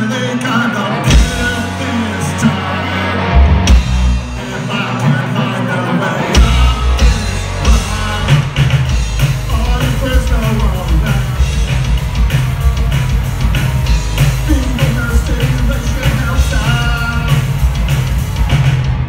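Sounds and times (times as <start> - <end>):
bass guitar: 0.0 - 19.0
drum kit: 0.0 - 19.0
electric guitar: 0.0 - 19.0.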